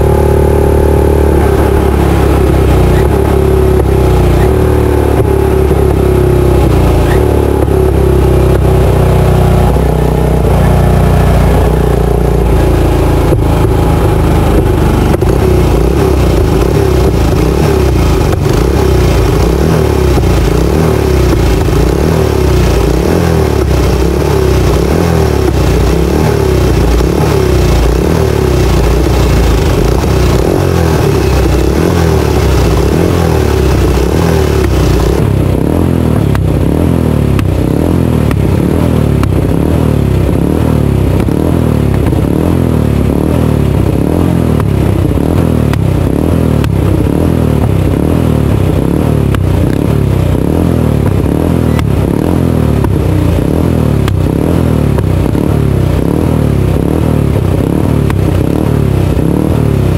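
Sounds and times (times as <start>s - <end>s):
motorcycle engine running loudly: 0.0s - 59.9s.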